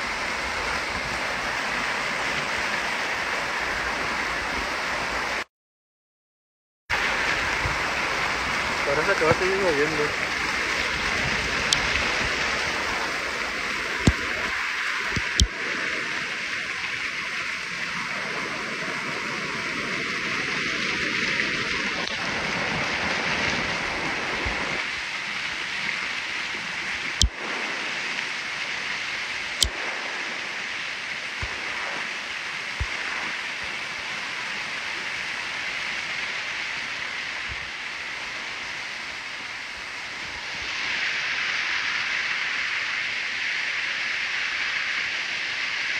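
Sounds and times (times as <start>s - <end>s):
floodwater rushing over rocks: 0.0s - 5.5s, 6.9s - 45.9s.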